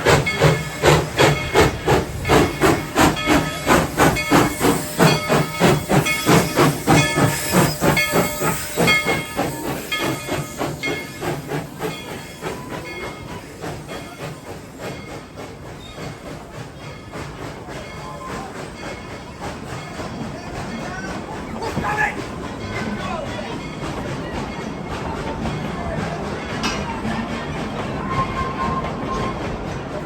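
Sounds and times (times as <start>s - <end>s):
steam hissing: 0.0s - 30.0s
steam locomotive chuffing: 0.0s - 30.0s.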